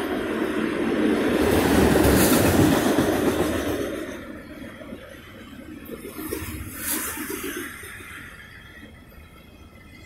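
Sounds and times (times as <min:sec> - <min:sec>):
train wheels clattering on rails: 0:00.0 - 0:10.0.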